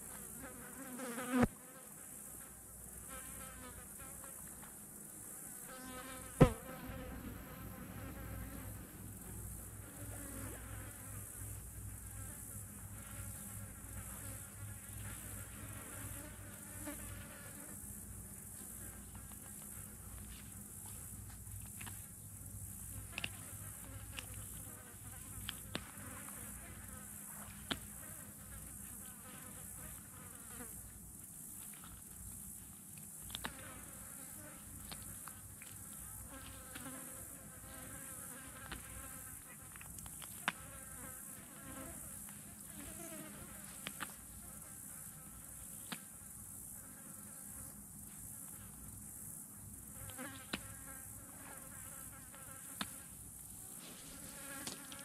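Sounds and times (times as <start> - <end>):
flies buzzing: 0.0 - 55.0
high insect hiss: 0.0 - 55.0.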